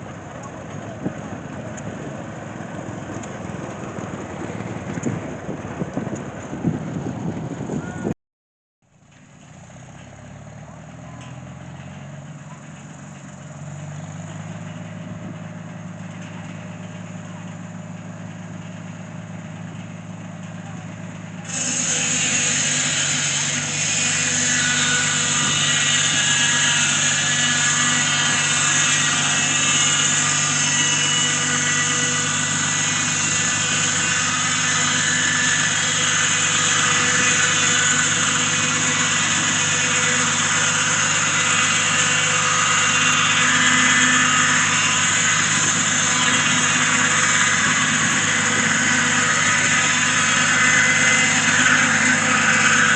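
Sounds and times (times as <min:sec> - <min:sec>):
engine running: 0:00.0 - 0:08.2, 0:08.8 - 0:52.9
loud steady machine noise: 0:00.0 - 0:08.2, 0:08.9 - 0:52.9.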